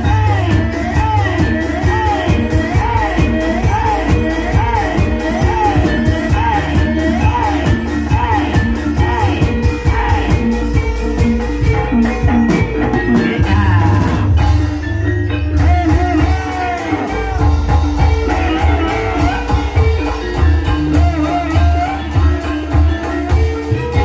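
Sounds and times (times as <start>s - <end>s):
ringing metallophones: 0.0s - 24.0s
wavering melody line: 0.0s - 24.0s.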